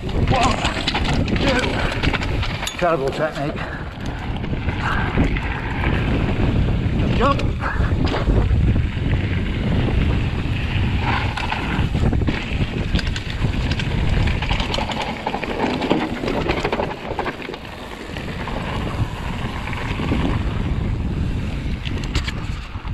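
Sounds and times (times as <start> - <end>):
bike rattling and clicking: 0.0 - 22.9
bike tyres on gravel: 0.0 - 22.9
wind buffeting microphone: 0.0 - 22.9.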